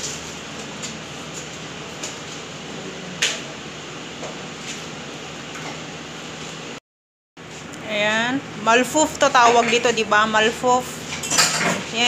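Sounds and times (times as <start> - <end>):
steady background hum: 0.0 - 6.8, 7.4 - 12.0.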